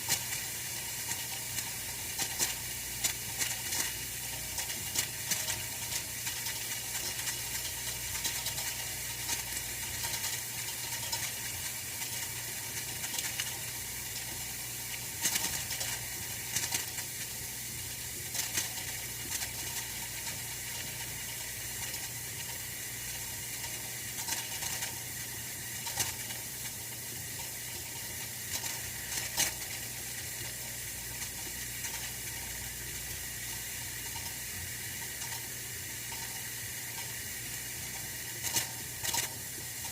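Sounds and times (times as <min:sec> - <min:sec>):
heater hiss and hum: 0:00.0 - 0:39.9
heater ticks and crackles: 0:00.0 - 0:39.9.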